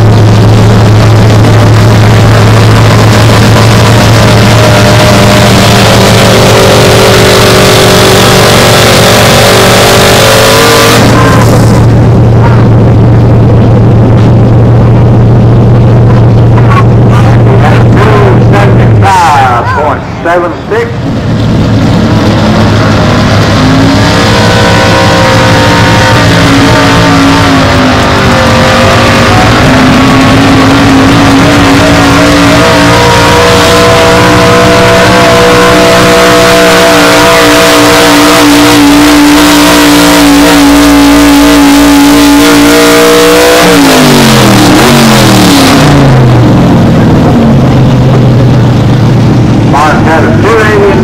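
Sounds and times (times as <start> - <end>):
truck engine at full throttle: 0.0 - 51.0.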